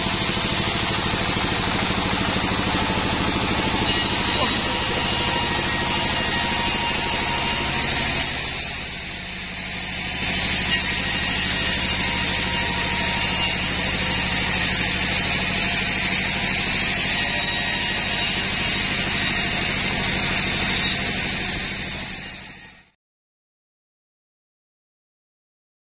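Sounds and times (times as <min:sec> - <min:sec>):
sawmill machinery humming: 0:00.0 - 0:22.9.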